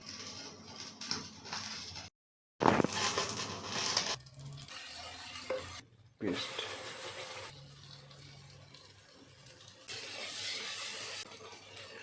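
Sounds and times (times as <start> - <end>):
kitchen cooking noises: 0.0 - 12.0.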